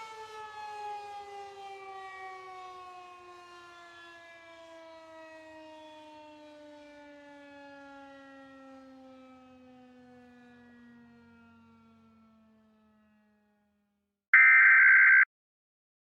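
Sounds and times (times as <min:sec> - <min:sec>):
air-raid siren winding down: 0:00.0 - 0:13.0, 0:14.4 - 0:15.2.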